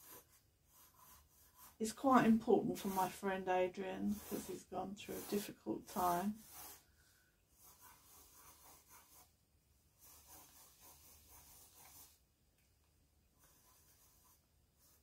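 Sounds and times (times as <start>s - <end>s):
pencil scratching on paper: 0.0s - 12.2s, 13.4s - 15.0s.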